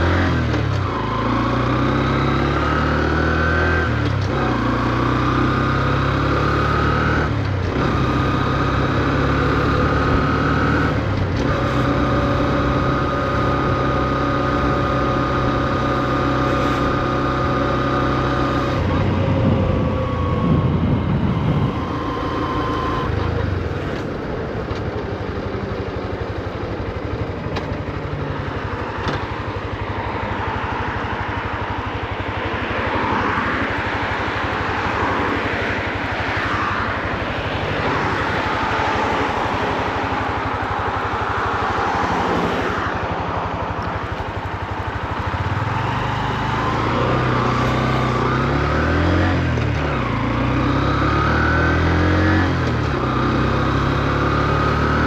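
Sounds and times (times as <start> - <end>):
motorcycle engine revving: 0.0 - 55.0
traffic noise: 0.0 - 55.0.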